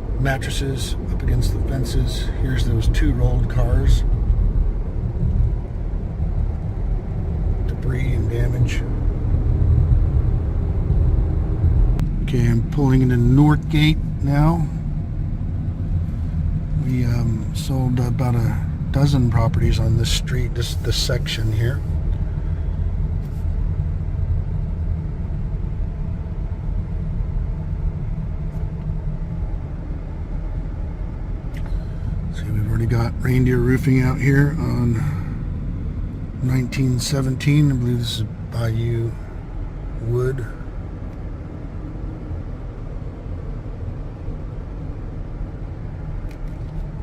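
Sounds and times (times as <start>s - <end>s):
car engine and tyre noise: 0.0s - 47.0s.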